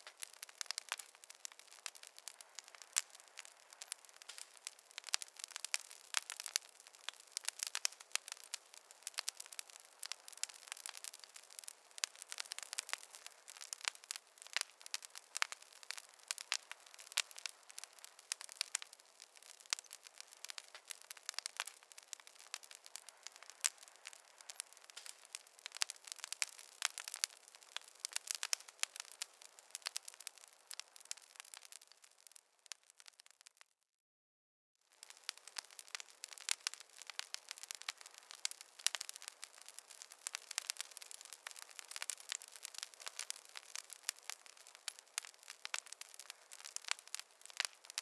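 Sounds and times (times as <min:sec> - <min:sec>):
campfire crackling: 0:00.0 - 0:33.7, 0:34.9 - 0:48.0.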